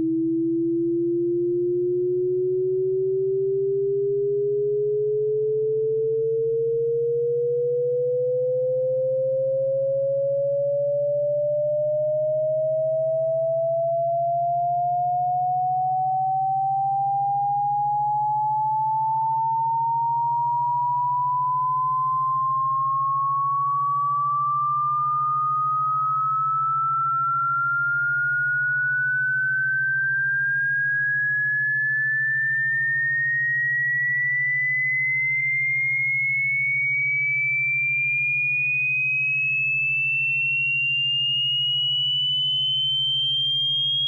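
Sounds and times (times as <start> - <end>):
rising electronic sine tone: 0.0 - 44.0.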